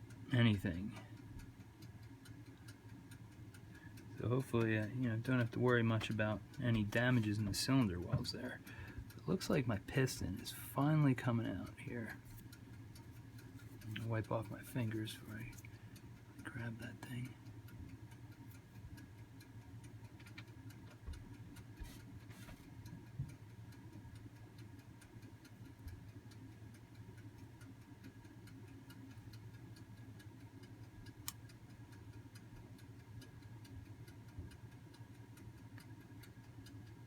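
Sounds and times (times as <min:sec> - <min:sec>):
faint even ticking: 0:00.0 - 0:37.0
steady low hum: 0:00.0 - 0:37.0.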